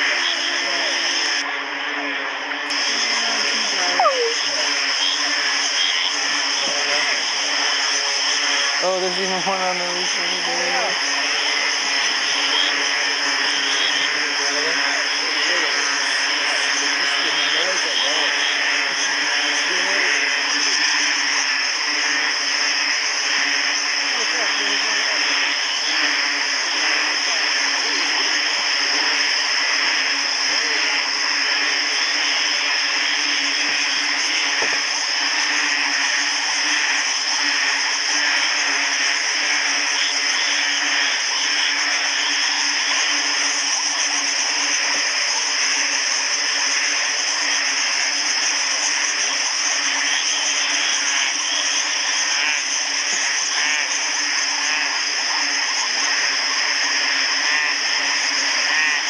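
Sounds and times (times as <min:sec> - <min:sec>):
frogs calling: 0:00.0 - 0:59.0
insects calling: 0:00.0 - 0:59.0.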